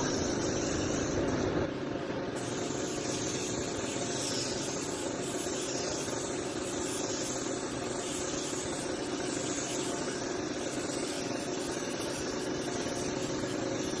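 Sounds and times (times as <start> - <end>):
hiss of air: 0.0 - 1.7, 2.4 - 14.0
mechanical hum: 0.0 - 14.0.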